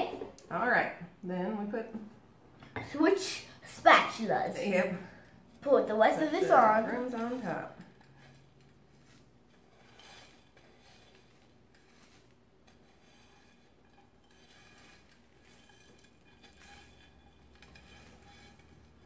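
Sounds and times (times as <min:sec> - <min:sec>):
spatula scraping a skillet: 0:02.8 - 0:19.0.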